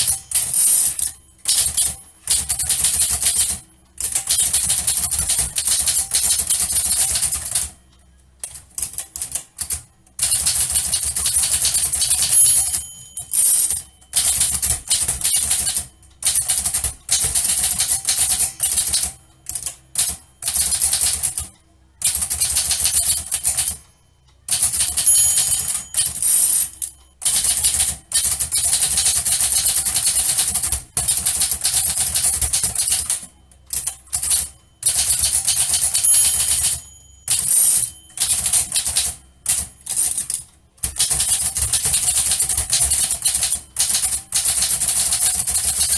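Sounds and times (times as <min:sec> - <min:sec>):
manual typewriter typing: 0:00.0 - 0:23.8, 0:24.4 - 0:45.9
typewriter margin bell: 0:00.0 - 0:45.9.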